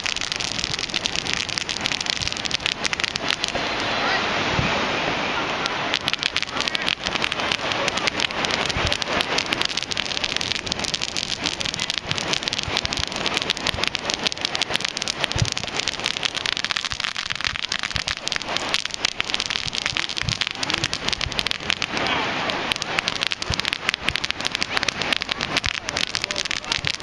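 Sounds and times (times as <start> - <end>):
deep fireworks thumps: 0.0 - 3.6, 5.9 - 22.0, 22.7 - 27.0
fireworks crackling: 0.0 - 4.2, 5.6 - 27.0.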